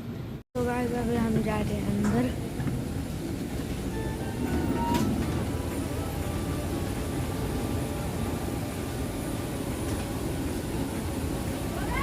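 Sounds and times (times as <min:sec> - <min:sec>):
airport and aircraft rumble: 0:00.0 - 0:12.0.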